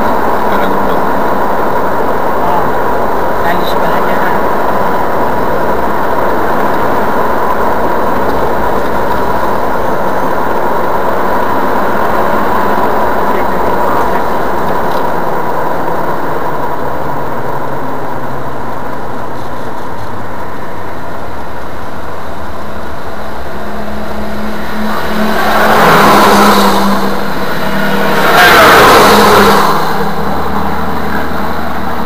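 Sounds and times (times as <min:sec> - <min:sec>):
car cabin road and engine noise: 0:00.0 - 0:32.0
lorry passing: 0:04.3 - 0:32.0.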